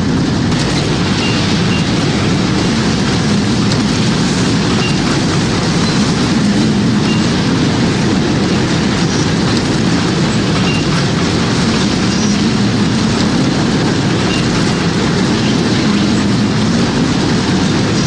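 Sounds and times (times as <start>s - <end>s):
dense roaring wind: 0.0s - 18.0s.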